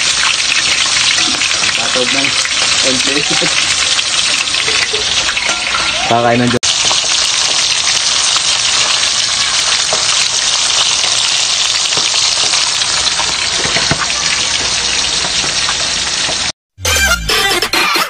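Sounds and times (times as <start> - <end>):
fish sizzling in hot oil: 0.0 - 16.6.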